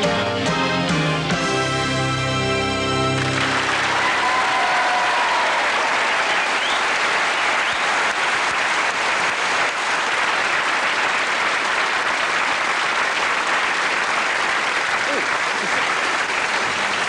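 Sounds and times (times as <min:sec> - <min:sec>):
audience applauding: 0:03.0 - 0:17.0.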